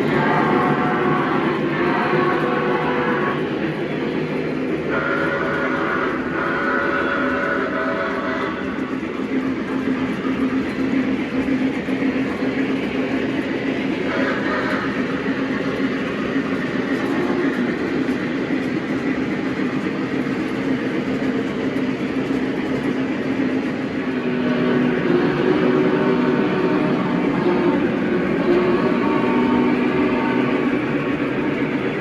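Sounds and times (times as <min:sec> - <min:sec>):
locomotive motor hum: 0:00.0 - 0:32.0
model train wheels rumbling: 0:00.0 - 0:32.0.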